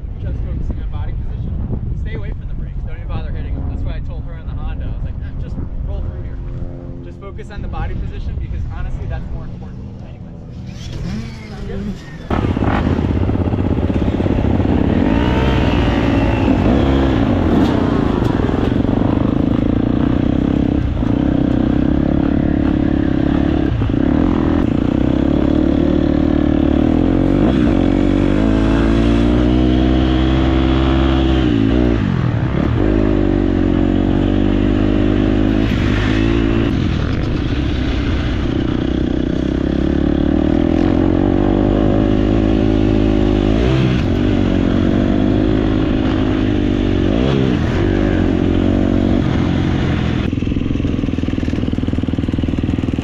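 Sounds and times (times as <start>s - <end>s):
dirt bike engine revving: 10.4s - 53.0s.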